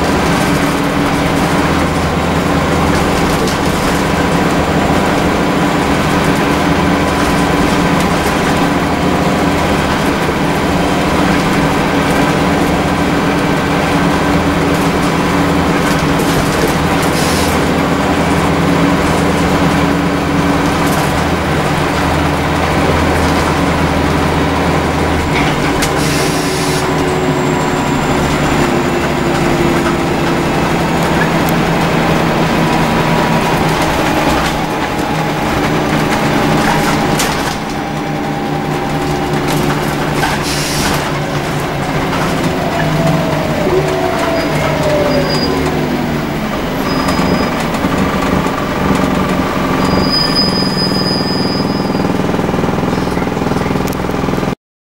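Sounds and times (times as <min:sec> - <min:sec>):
bus engine running: 0:00.0 - 0:54.6
road noise: 0:00.0 - 0:54.6.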